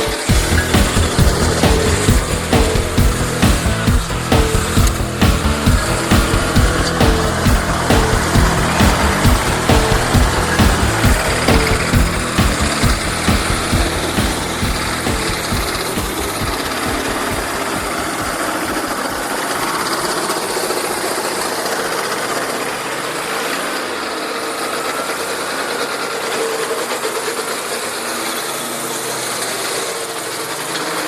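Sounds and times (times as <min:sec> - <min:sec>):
stump grinder engine running: 0:00.0 - 0:28.3.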